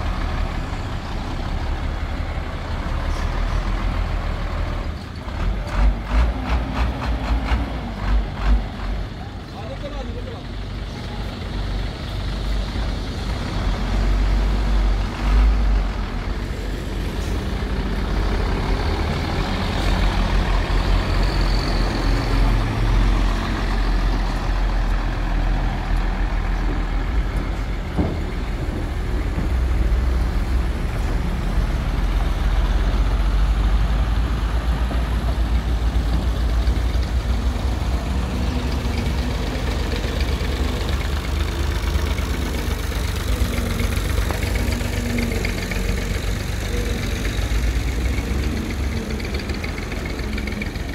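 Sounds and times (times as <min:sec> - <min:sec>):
diesel truck engine running: 0:00.0 - 0:50.9.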